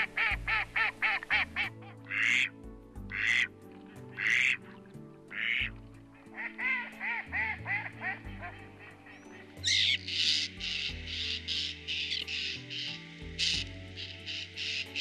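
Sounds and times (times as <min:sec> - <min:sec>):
music with sustained low notes: 0:00.0 - 0:15.0
rasping bird calls: 0:00.0 - 0:15.0.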